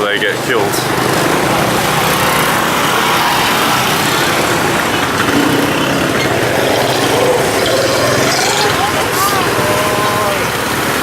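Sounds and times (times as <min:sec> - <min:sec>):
motorbike traffic: 0:00.0 - 0:11.0.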